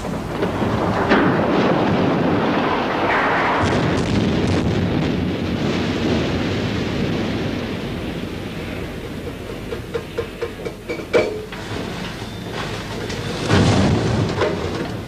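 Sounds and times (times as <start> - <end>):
deep rumble of collapse: 0.0 - 15.0
falling debris crackles: 0.0 - 15.0.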